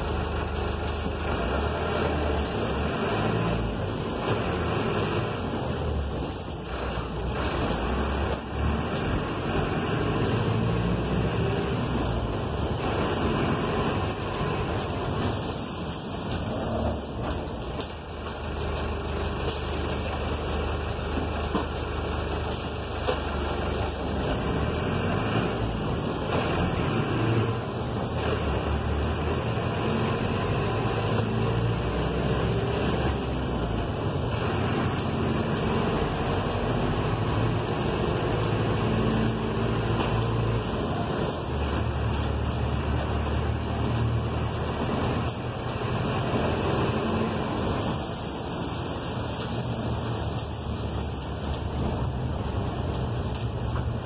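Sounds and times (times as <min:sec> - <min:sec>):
bus engine running: 0:00.0 - 0:54.0
road and tyre noise: 0:00.0 - 0:54.0.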